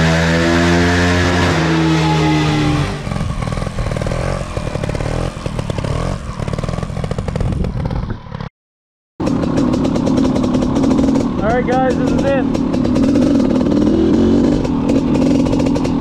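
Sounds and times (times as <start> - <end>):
dirt bike engine revving: 0.0 - 8.5, 9.2 - 16.0.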